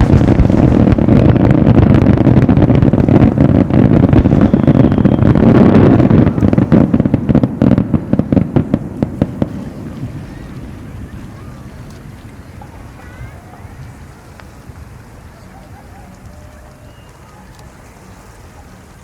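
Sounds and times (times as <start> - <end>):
fireworks booming: 0.0 - 15.3
fireworks sharp cracks: 0.0 - 17.9.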